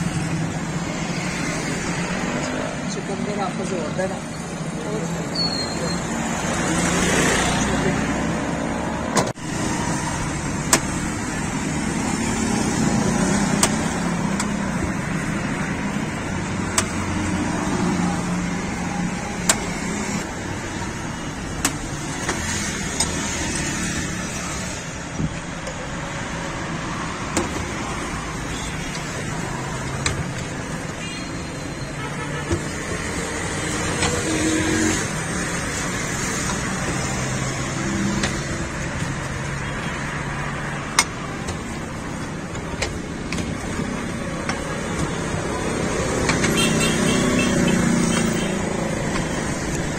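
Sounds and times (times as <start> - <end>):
roadside traffic noise: 0.0 - 49.9.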